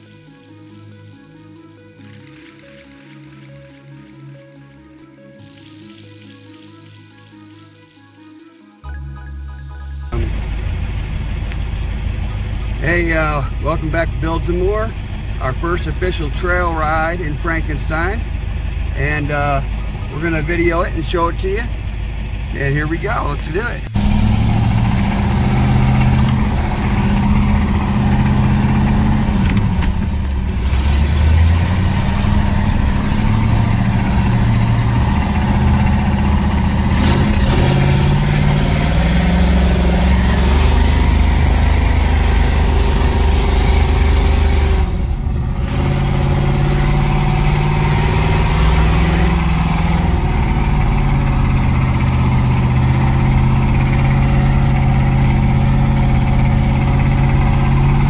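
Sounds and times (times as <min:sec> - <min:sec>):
off-road vehicle engine under load: 0:10.1 - 0:58.0.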